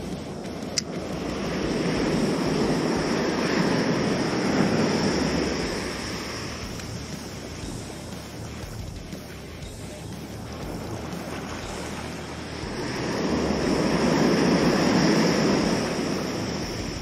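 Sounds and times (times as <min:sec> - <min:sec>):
ocean wave rushing in: 0:00.0 - 0:17.0.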